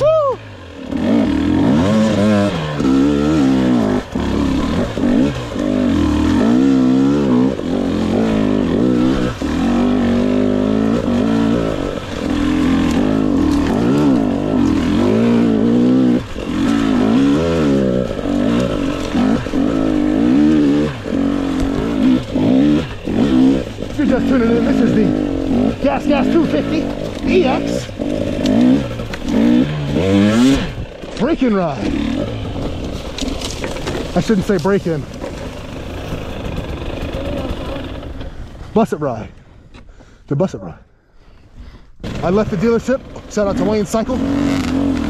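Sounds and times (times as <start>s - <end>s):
dirt bike engine revving: 0.4s - 38.7s, 42.0s - 45.0s.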